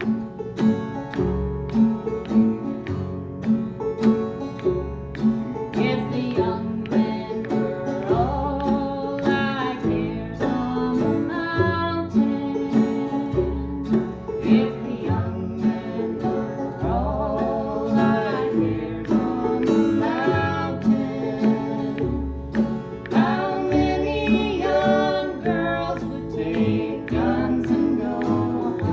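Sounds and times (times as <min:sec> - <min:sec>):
acoustic guitar: 0:00.0 - 0:28.9
bass line: 0:00.0 - 0:28.9
person singing: 0:05.6 - 0:28.9.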